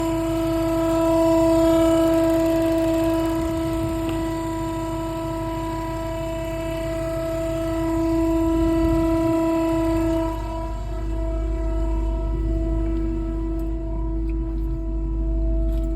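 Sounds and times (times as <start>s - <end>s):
loud horn-like drone: 0.0s - 15.9s
low engine rumble: 0.0s - 15.9s.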